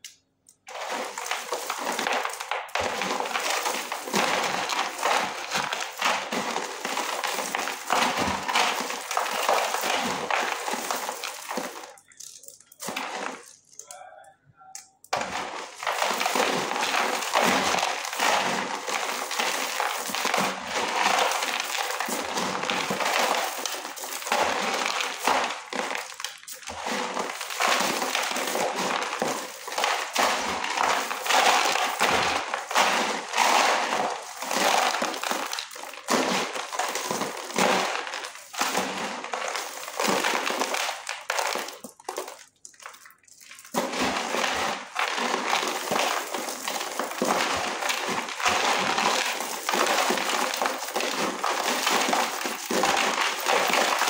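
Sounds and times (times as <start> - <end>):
chalk clay crunching by hand: 0.7 - 13.6, 15.1 - 54.0.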